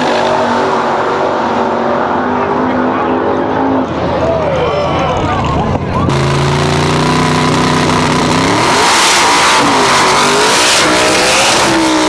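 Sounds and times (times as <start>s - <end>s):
drag race car engine revving: 0.0s - 12.0s.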